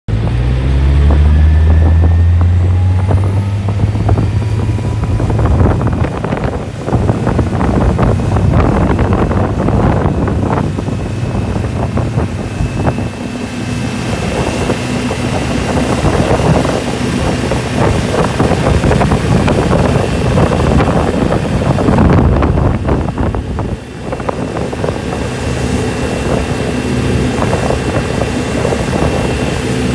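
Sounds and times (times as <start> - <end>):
boat engine running hard: 0.1 - 29.9
wake rushing: 0.1 - 29.9
wind: 0.1 - 29.9.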